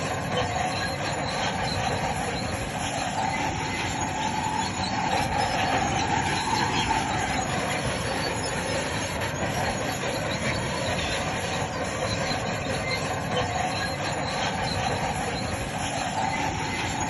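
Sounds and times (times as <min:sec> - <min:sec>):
bulldozer engine running: 0:00.0 - 0:17.0
steel tracks squealing and grinding: 0:00.0 - 0:17.0.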